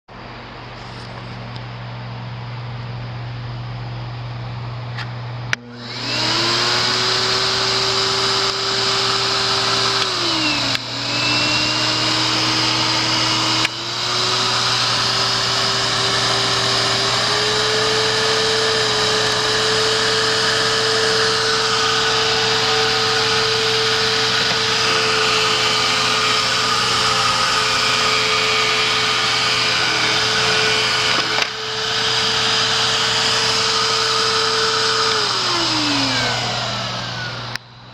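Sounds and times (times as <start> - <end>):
vacuum cleaner motor whine: 2.6 - 37.9.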